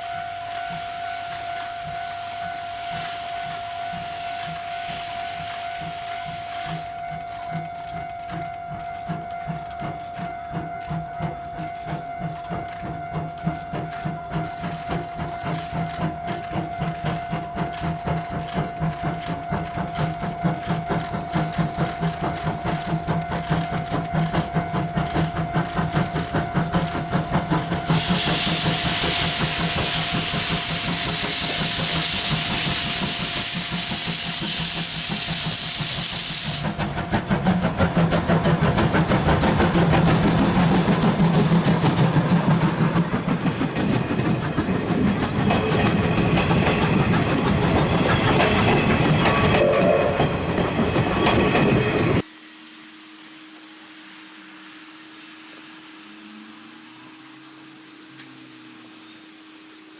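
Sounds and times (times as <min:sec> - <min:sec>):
steam hissing: 0:00.0 - 0:52.3
steam locomotive exhaust beats: 0:00.0 - 0:52.4.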